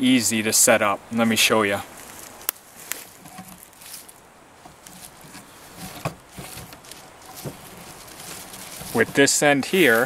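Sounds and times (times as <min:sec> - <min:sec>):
footsteps in dry leaves: 0:01.7 - 0:10.0.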